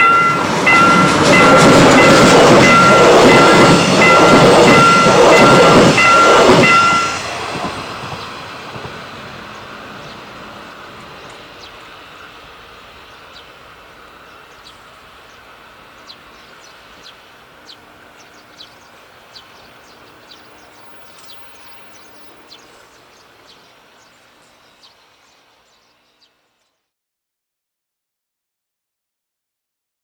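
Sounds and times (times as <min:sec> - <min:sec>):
train running on track: 0:00.0 - 0:26.8.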